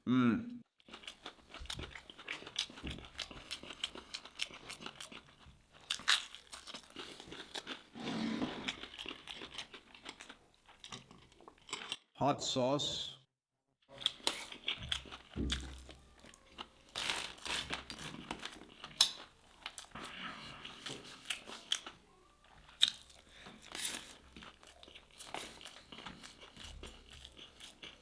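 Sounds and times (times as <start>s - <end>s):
crunchy food chewing: 0.8s - 8.0s, 8.6s - 12.1s, 13.9s - 28.0s.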